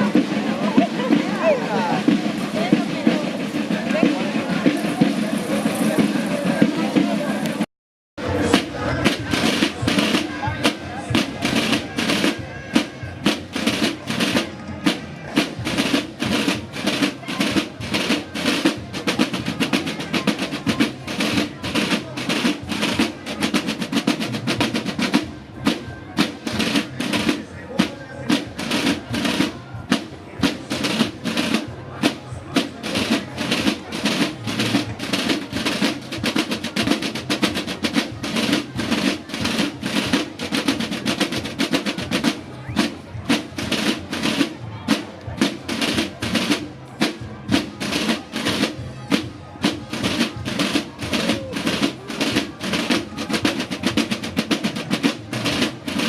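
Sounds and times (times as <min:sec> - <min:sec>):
snare drum rhythm with rolls: 0:00.0 - 0:56.0.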